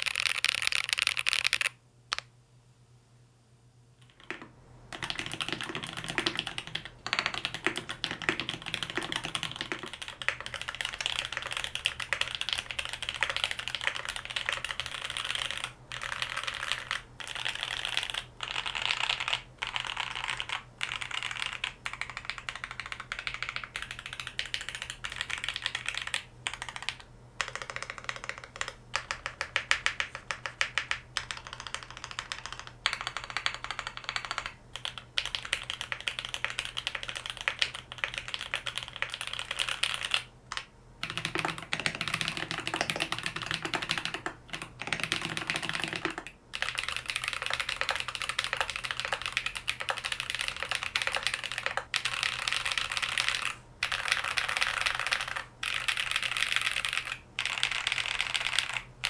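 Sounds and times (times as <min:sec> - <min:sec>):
mechanical keyboard typing: 0:00.0 - 0:02.2, 0:04.0 - 0:59.0.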